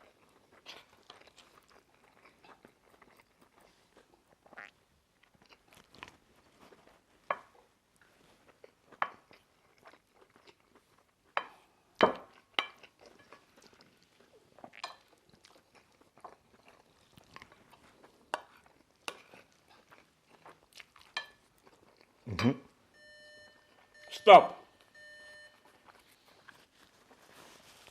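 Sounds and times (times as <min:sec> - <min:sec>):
chewing and mouth sounds: 0:00.0 - 0:07.0, 0:08.0 - 0:22.6, 0:24.9 - 0:27.9.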